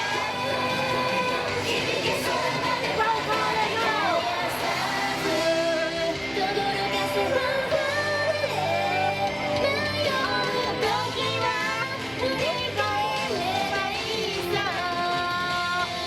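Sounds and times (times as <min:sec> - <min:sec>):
female group singing: 0:00.0 - 0:16.0
pop backing track: 0:00.0 - 0:16.0.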